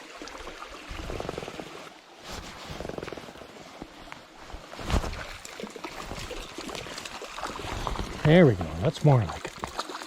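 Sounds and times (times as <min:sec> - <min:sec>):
stream water running and splashing: 0:00.0 - 0:10.0.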